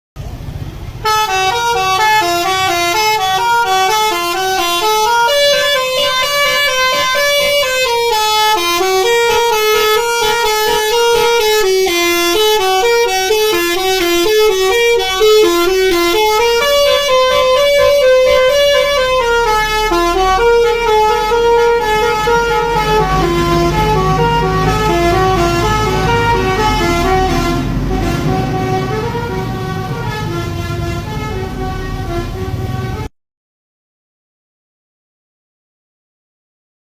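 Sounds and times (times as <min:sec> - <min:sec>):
bus engine rumble: 0:00.2 - 0:33.1
musical bus horn melody: 0:01.0 - 0:33.1.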